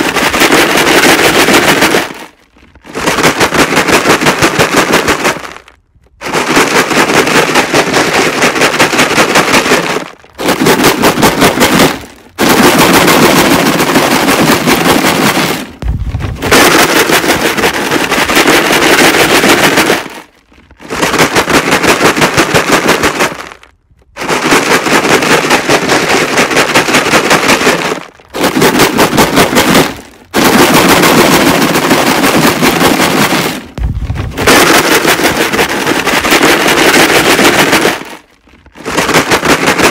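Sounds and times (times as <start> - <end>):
rocks rattling in plastic jug: 0.0 - 39.9.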